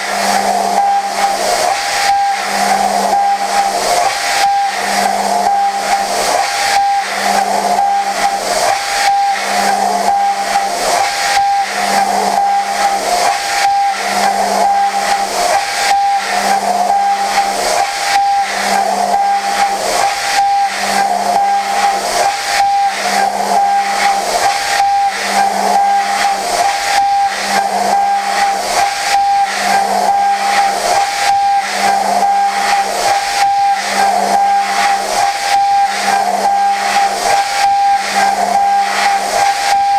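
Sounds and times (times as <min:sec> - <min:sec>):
high milling cutting tone: 0:00.0 - 0:39.9.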